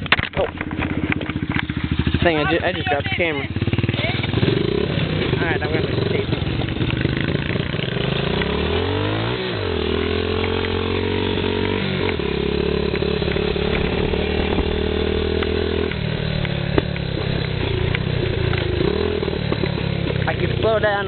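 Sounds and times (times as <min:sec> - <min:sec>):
dirt bike engine revving: 0:00.4 - 0:21.0.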